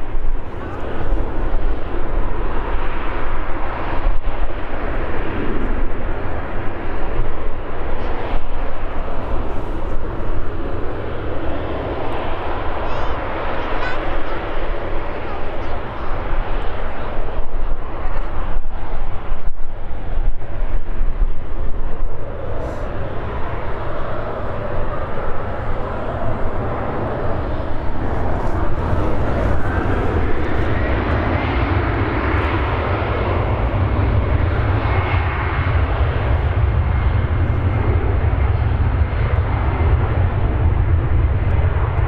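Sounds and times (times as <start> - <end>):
jet engines spooling up whine: 0.0 - 42.0
low engine rumble: 4.8 - 42.0.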